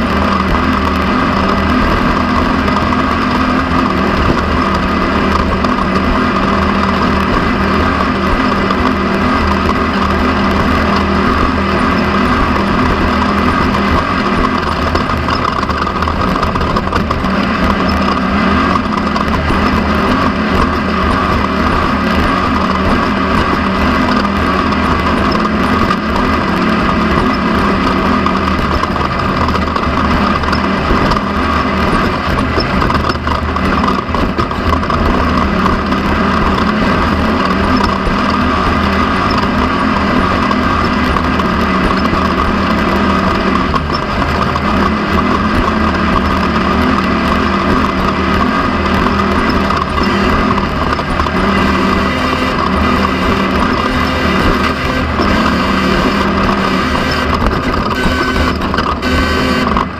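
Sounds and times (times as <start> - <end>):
race car engine running: 0.0 - 59.9
terrain noise: 0.0 - 59.9
wind: 0.0 - 59.9.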